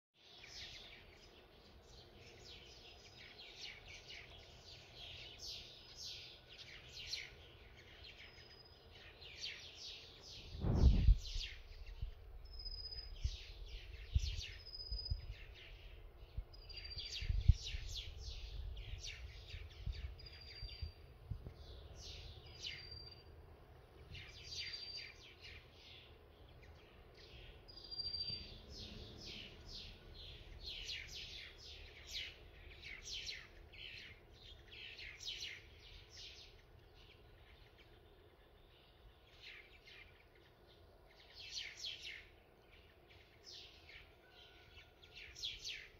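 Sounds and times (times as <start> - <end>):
small birds chirping: 0.2 - 45.9.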